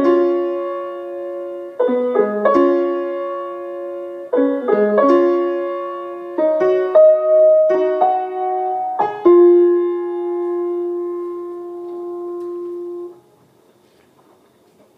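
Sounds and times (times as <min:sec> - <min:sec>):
piano playing slow chords: 0:00.0 - 0:13.4.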